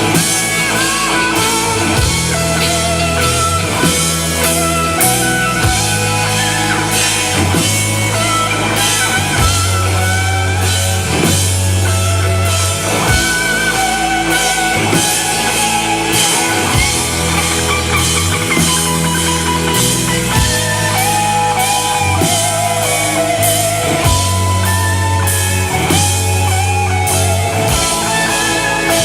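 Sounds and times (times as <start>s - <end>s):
drum kit: 0.0s - 29.0s
electric guitar: 0.0s - 29.0s
steady bass line: 0.0s - 29.0s.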